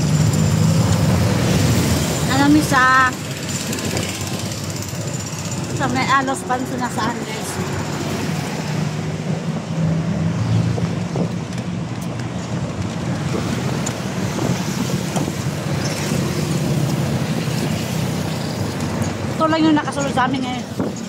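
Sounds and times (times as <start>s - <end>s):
road noise: 0.0s - 21.0s
truck engine running: 0.0s - 21.0s
wind buffeting microphone: 0.9s - 21.0s.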